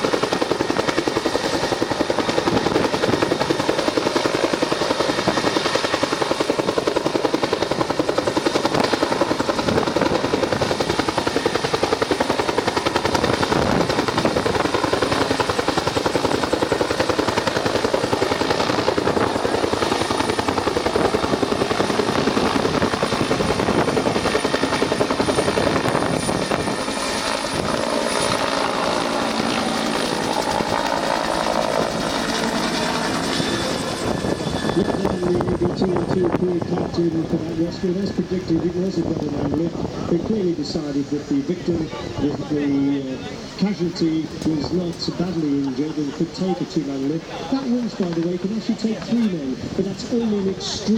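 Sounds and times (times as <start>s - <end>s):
helicopter rotor chopping: 0.0s - 50.9s.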